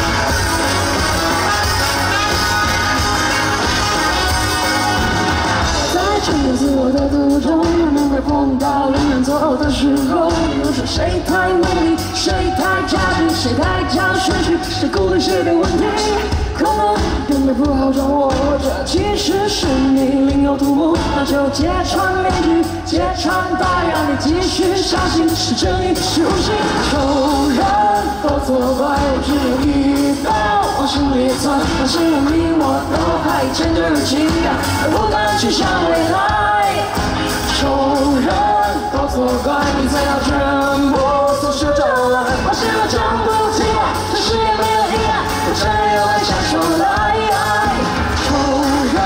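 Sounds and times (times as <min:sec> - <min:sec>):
person singing: 0:00.0 - 0:49.0
pop-rock band playing: 0:00.0 - 0:49.0
steady drum beat: 0:00.0 - 0:49.0.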